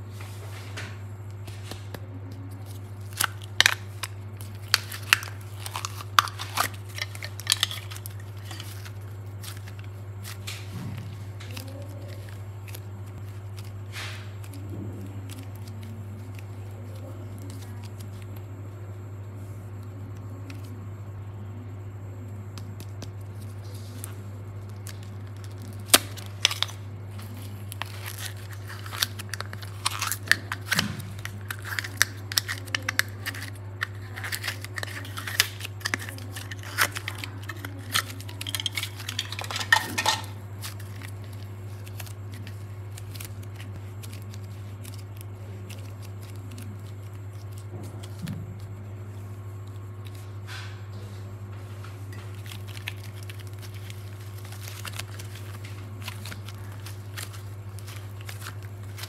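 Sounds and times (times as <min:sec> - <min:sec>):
steady low hum: 0:00.0 - 0:59.0
plastic wrapper crinkling: 0:01.3 - 0:18.5, 0:22.6 - 0:50.5, 0:51.8 - 0:59.0.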